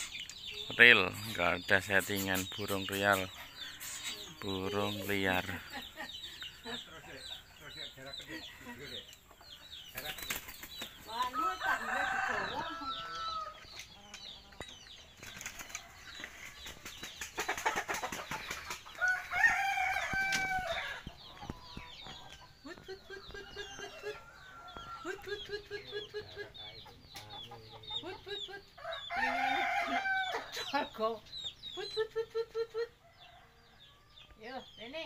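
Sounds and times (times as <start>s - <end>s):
chickens clucking: 0.0s - 35.0s
small birds chirping: 0.0s - 35.0s.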